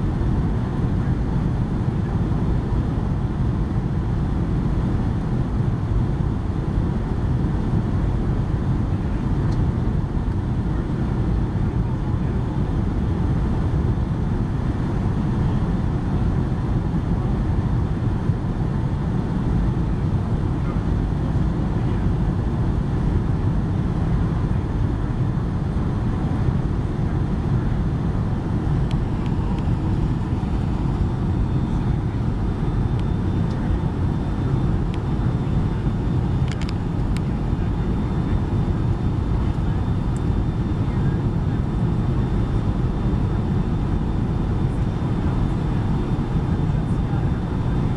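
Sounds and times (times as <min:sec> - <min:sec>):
jet engine and airflow rumble: 0:00.0 - 0:47.9.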